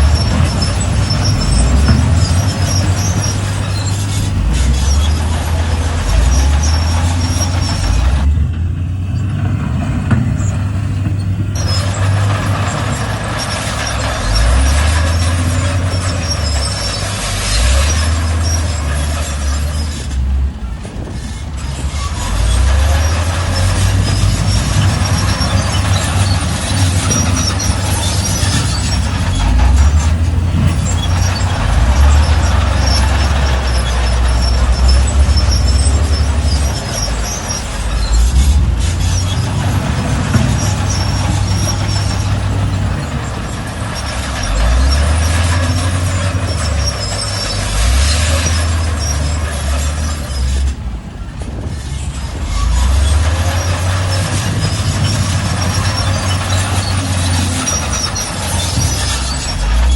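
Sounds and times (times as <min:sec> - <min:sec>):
high machine squeaks: 0:00.0 - 0:08.4, 0:10.3 - 0:50.8, 0:51.5 - 0:59.9
bulldozer diesel engine droning: 0:00.0 - 0:59.9.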